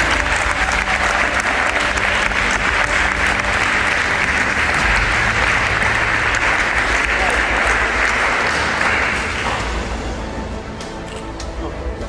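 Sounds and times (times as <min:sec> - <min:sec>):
group applauding: 0:00.0 - 0:11.6.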